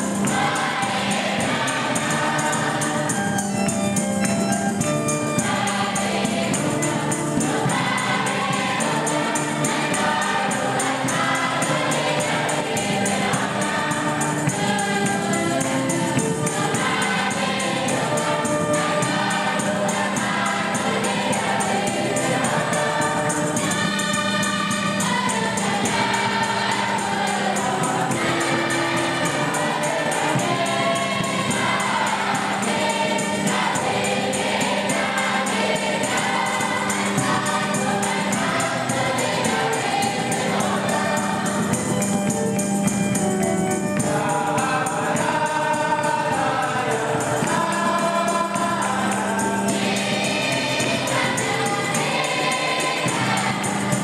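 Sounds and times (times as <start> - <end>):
gospel choir singing: 0.0 - 54.0
rhythmic percussion ticking beat: 0.0 - 54.0.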